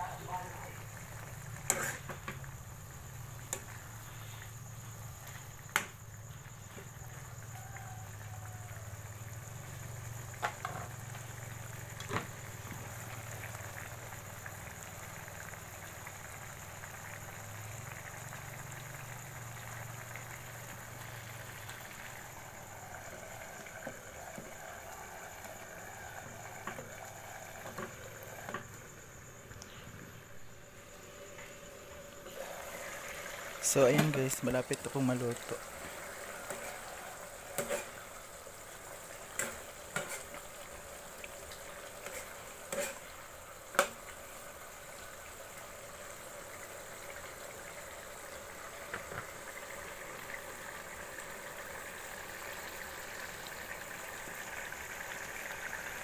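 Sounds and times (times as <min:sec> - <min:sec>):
broth simmering and bubbling: 0:00.0 - 0:56.0.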